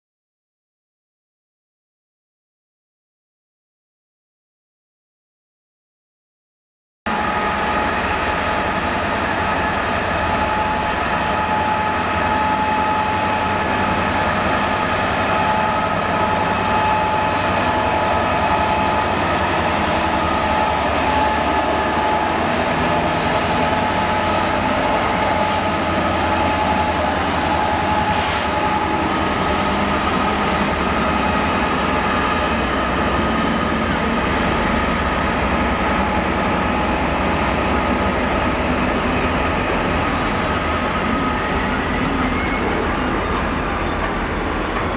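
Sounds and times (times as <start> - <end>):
diesel locomotive engine: 7.1 - 44.9.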